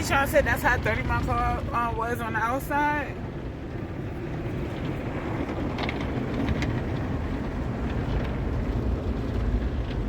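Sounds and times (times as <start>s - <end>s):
car wash low rumble: 0.0s - 10.0s.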